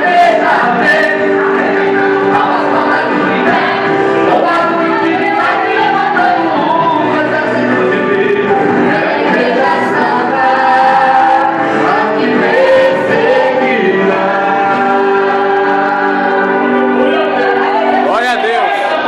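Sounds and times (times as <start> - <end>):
group singing worship song: 0.0 - 19.0.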